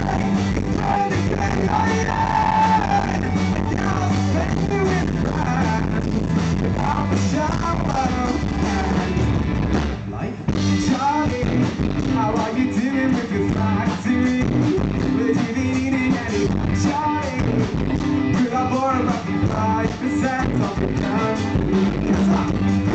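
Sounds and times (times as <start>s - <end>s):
electric guitar: 0.0s - 22.9s
live rock band playing: 0.0s - 22.9s.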